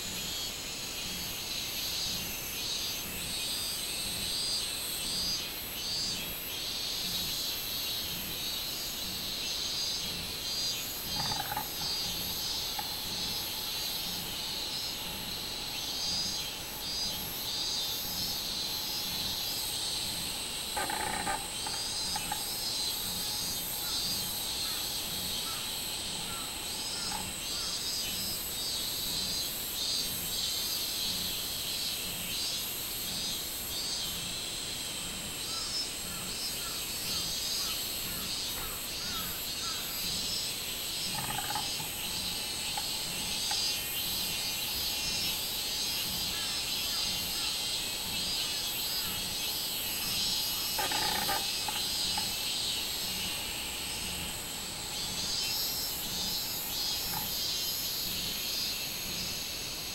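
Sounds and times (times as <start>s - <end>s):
cicadas singing in chorus: 0.0s - 59.9s.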